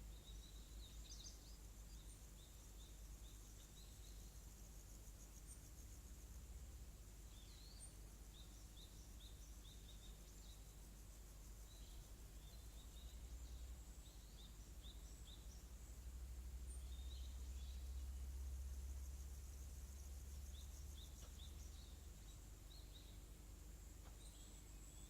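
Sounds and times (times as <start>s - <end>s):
bird chirping: 0.0s - 5.9s, 7.2s - 23.3s
insect trill: 0.1s - 25.0s.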